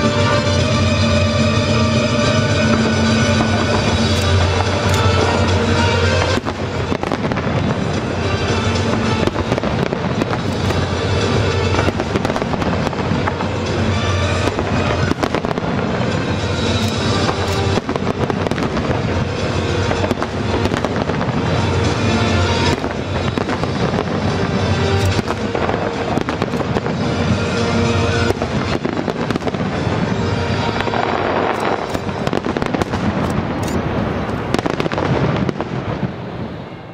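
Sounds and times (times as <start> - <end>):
firework shells bursting: 1.8 - 35.6.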